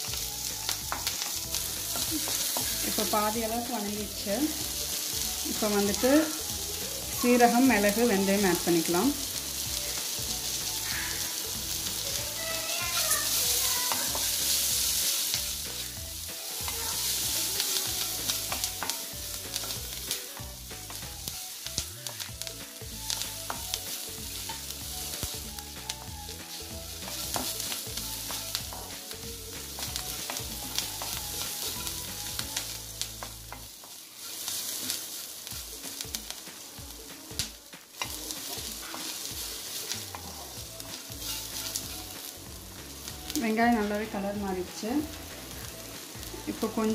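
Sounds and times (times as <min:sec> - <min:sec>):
onion sizzling in hot oil: 0:00.0 - 0:46.9
spatula scraping and knocking pan: 0:00.1 - 0:22.4, 0:23.1 - 0:36.6, 0:37.3 - 0:44.1.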